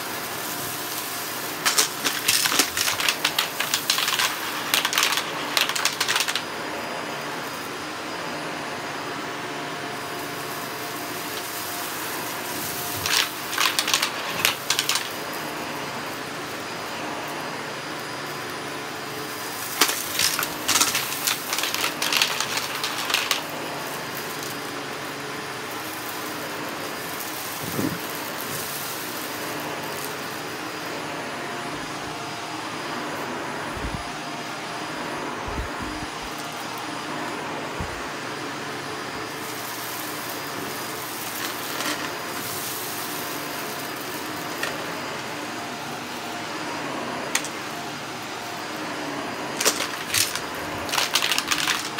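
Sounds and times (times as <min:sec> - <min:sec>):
vacuum cleaner running on carpet: 0:00.0 - 0:51.9.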